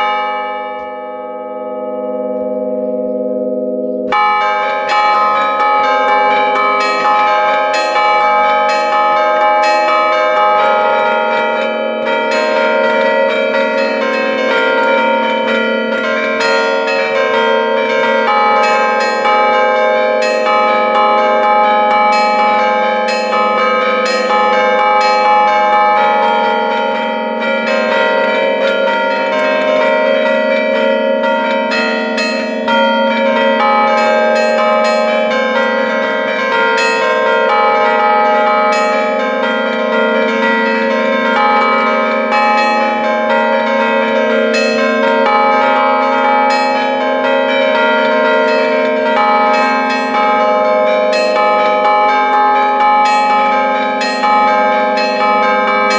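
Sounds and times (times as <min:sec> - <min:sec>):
church bells ringing: 0:00.0 - 0:55.9.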